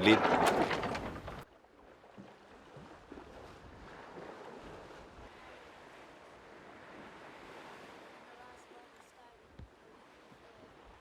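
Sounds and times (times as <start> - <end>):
sea water rushing: 0.0 - 11.0.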